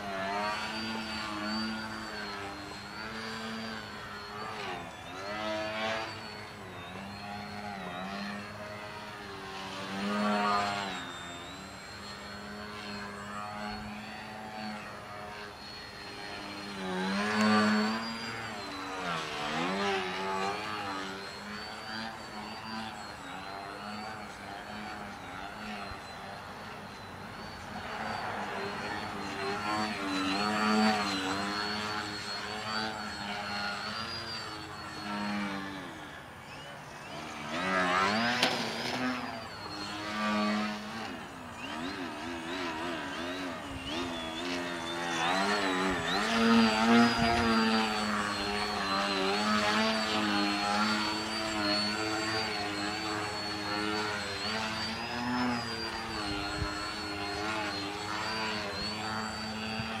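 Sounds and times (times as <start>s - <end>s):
model plane motor whining: 0.0s - 60.0s.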